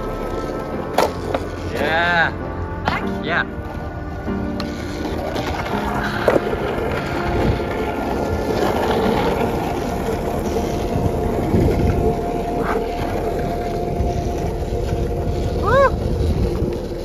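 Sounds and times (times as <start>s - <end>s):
longboard wheels rolling on asphalt: 0.0s - 17.0s.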